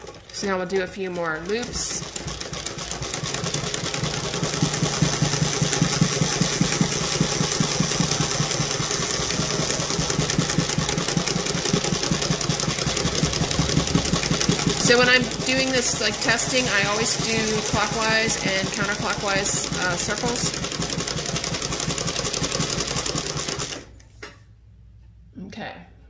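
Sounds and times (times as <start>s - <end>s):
embroidery machine clattering: 0.0s - 23.9s.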